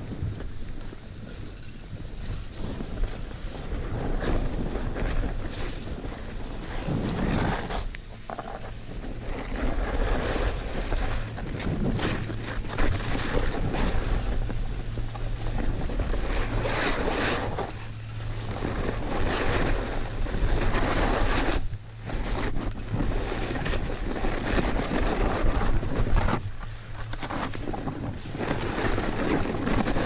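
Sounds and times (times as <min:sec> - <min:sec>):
snowboard scraping over snow: 0:00.0 - 0:30.0
wind rushing over microphone: 0:00.0 - 0:30.0.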